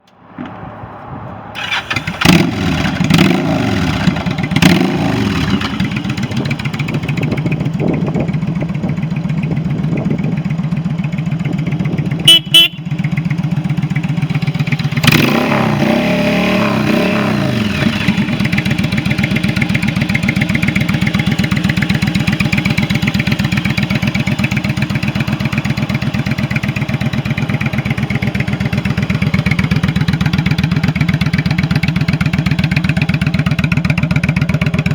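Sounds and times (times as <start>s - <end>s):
motorcycle engine revving and idling: 1.6s - 34.9s.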